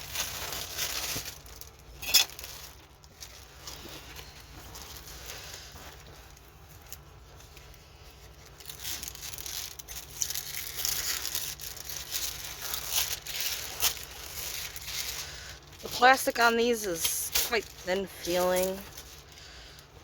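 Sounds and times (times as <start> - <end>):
plastic cover rustling and crinkling: 0.0 - 20.0.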